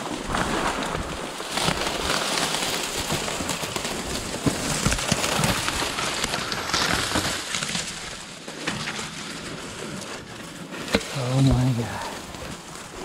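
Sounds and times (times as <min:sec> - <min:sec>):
reed stalks crackling and snapping: 0:00.0 - 0:13.0
stems rustling against microphone: 0:00.0 - 0:13.0.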